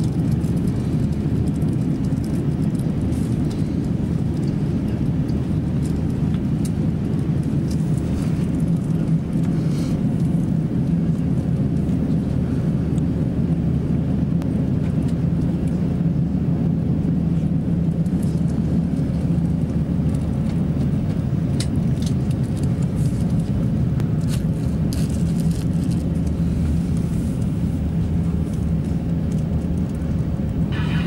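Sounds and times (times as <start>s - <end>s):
aircraft engines rumbling: 0.0s - 31.0s
constant low hum: 0.0s - 31.0s.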